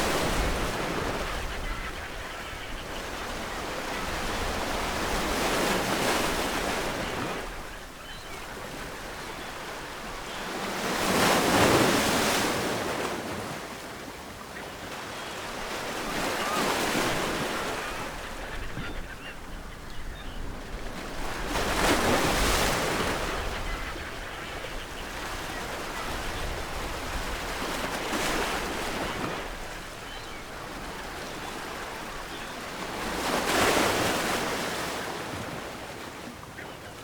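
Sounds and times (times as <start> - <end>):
ocean waves breaking on shore: 0.0 - 37.0.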